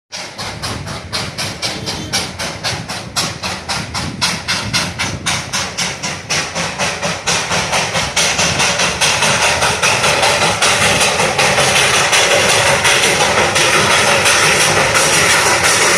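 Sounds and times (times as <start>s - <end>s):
steam locomotive chuffing: 0.1s - 15.9s.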